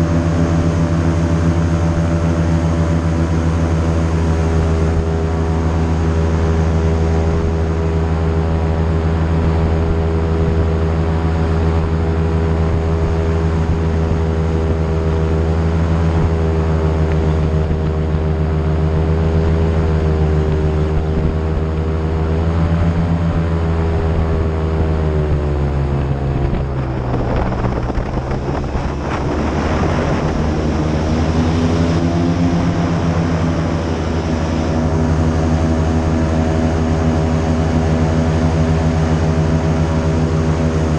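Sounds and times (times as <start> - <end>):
airboat engine and propeller: 0.0 - 40.9.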